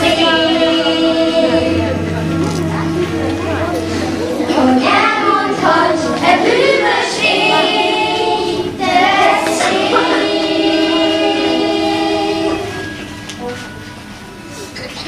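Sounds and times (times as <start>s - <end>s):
children singing: 0.0s - 12.9s.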